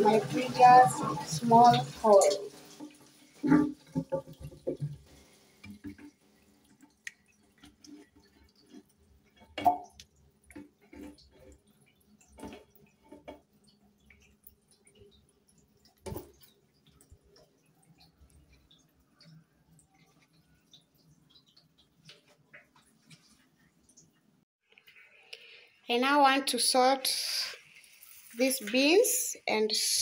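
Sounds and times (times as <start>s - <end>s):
water dripping in toilet bowl: 0.0s - 25.6s.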